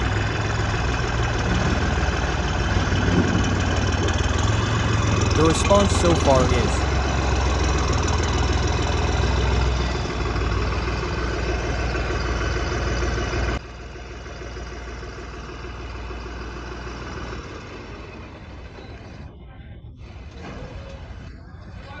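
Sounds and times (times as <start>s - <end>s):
tractor engine idling: 0.0s - 22.0s.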